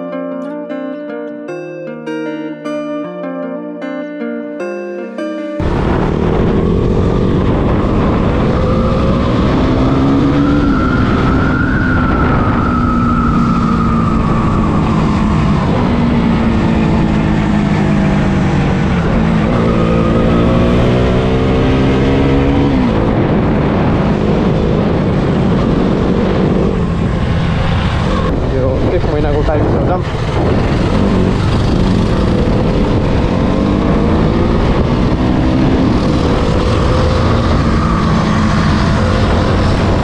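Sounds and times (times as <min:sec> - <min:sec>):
motorcycle engine revving: 0:05.6 - 0:40.0
wind and road noise: 0:05.6 - 0:40.0.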